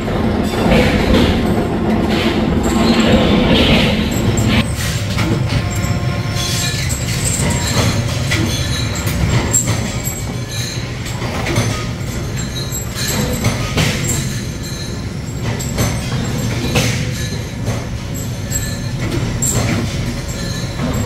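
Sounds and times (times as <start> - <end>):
workshop machinery rumbling: 0.0 - 21.0
metallic clinks: 2.6 - 21.0.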